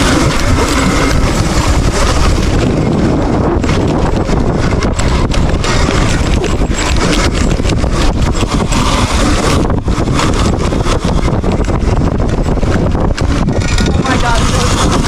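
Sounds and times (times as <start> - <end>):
dirt bike knocks and jolts: 0.0 - 15.0
wind buffeting microphone: 0.0 - 15.0.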